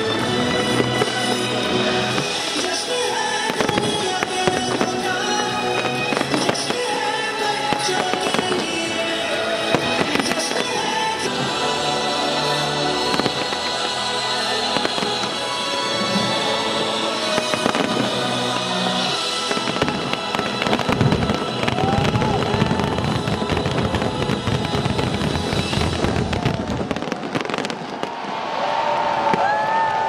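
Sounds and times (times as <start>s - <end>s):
music track: 0.0s - 28.0s
fireworks bursting: 0.0s - 30.0s.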